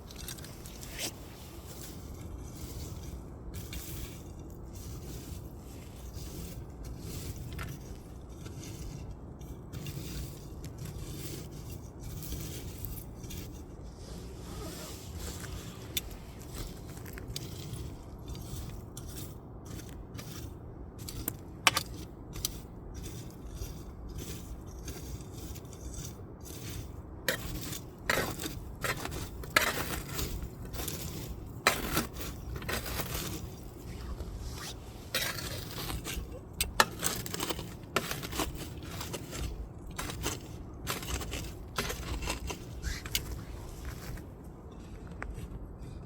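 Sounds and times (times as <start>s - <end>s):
low rumble of burning: 0.0s - 46.0s.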